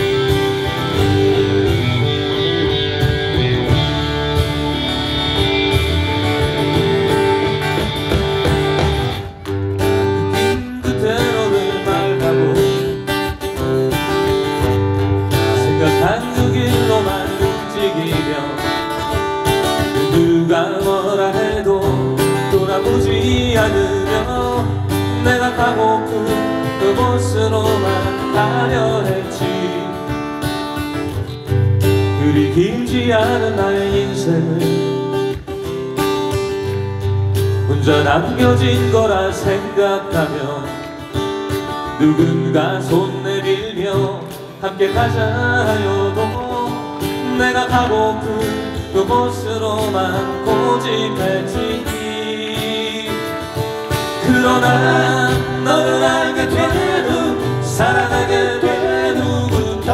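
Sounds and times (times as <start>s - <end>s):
drums: 0.0s - 43.8s, 44.9s - 59.9s
acoustic guitars strumming: 0.0s - 59.9s.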